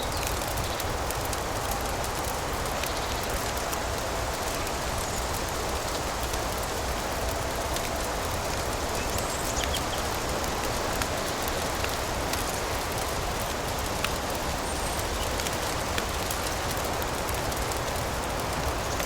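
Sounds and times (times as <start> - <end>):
sharp crackling ticks: 0.0 - 19.0
steady rain: 0.0 - 19.0.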